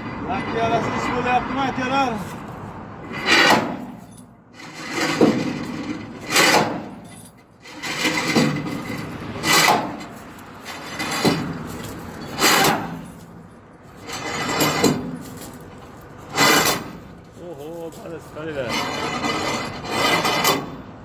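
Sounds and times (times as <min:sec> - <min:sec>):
hand tool rasping strokes: 0:03.1 - 0:20.9.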